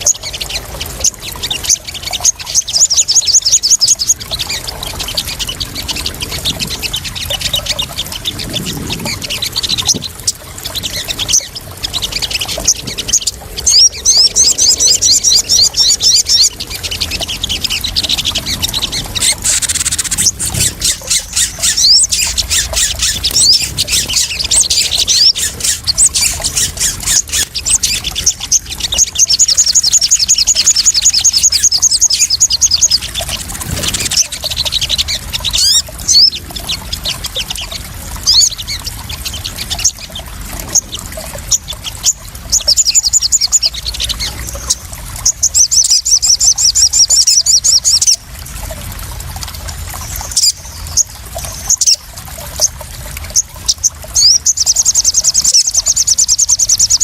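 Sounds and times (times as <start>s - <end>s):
birds chirping and trilling: 0.0s - 48.3s, 50.0s - 57.0s
water trickling and splashing: 0.0s - 57.0s.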